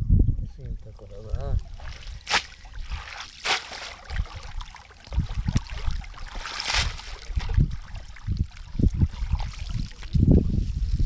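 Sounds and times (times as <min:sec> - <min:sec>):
water splashing and sloshing: 0:01.5 - 0:11.0.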